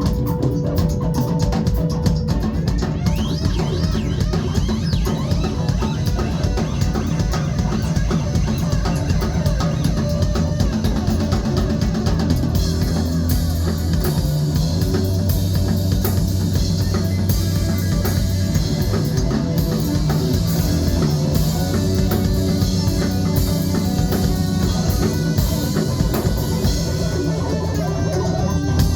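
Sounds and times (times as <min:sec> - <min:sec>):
rock band playing: 0:00.0 - 0:28.9.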